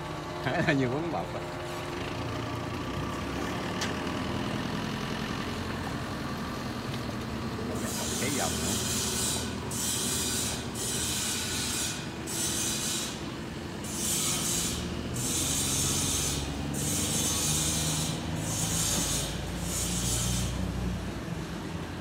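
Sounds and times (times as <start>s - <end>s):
boat diesel engine running hard: 0.0s - 22.0s.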